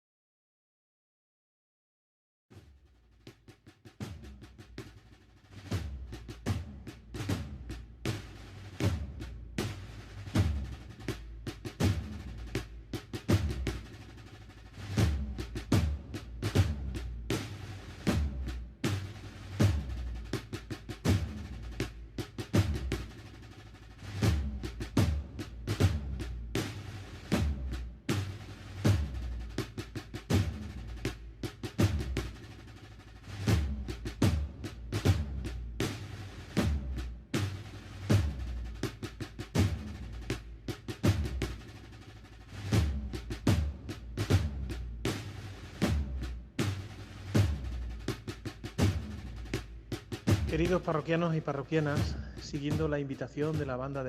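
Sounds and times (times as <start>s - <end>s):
snare drum strokes: 2.6s - 54.0s.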